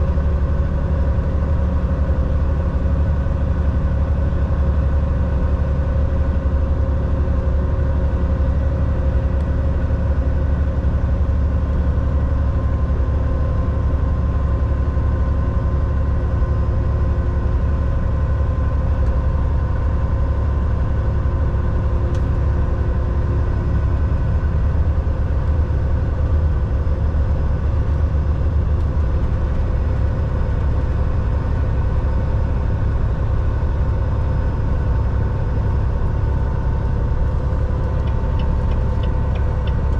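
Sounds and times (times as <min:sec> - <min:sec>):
truck engine low rumble: 0:00.0 - 0:39.9.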